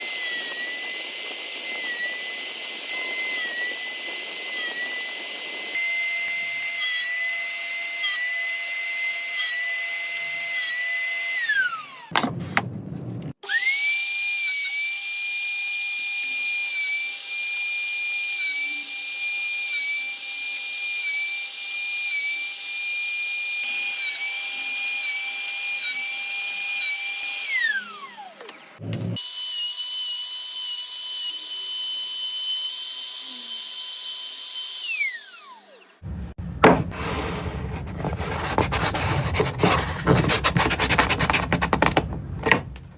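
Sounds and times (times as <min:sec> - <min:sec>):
power tool motor whining: 0:00.0 - 0:12.2, 0:13.4 - 0:36.0.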